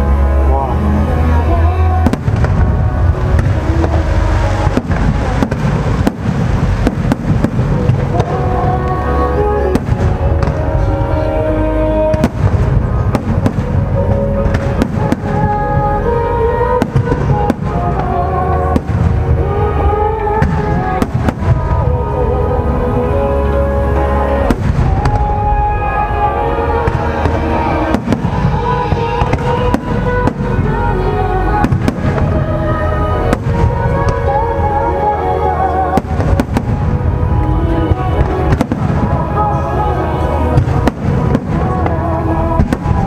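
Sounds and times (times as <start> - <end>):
constant low rumble: 0.0 - 43.0
loud music: 0.0 - 43.0
fireworks bangs: 2.0 - 22.3, 24.4 - 43.0.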